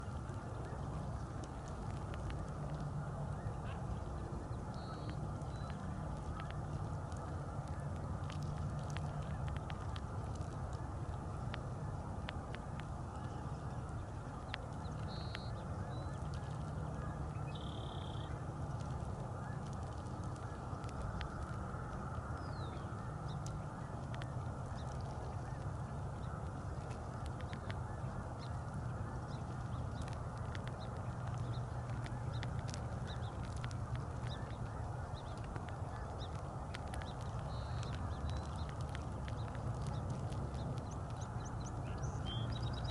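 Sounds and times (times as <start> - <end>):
low background rumble: 0.0 - 42.9
soft clicks: 4.6 - 42.9.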